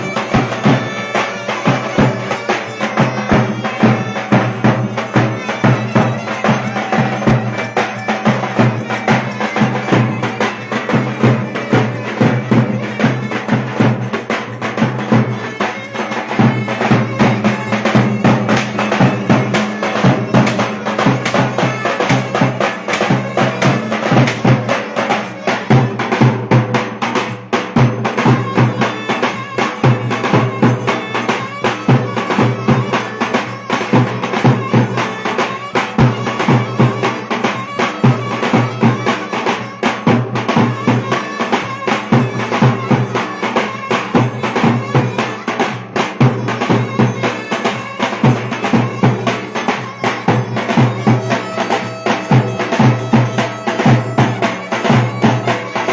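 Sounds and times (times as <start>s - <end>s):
fast drum beat: 0.0s - 55.9s
reedy droning wind instrument: 0.0s - 55.9s.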